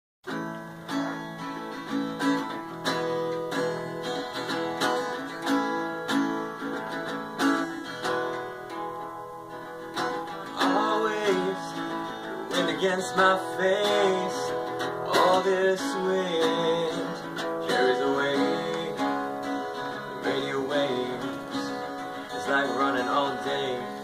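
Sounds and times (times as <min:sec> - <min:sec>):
acoustic guitars strumming: 0:00.2 - 0:24.0.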